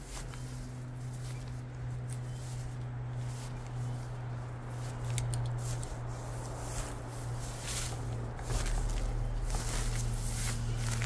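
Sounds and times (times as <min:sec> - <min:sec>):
footsteps on dry ground: 0:00.0 - 0:11.0
steady low hum: 0:00.0 - 0:11.0.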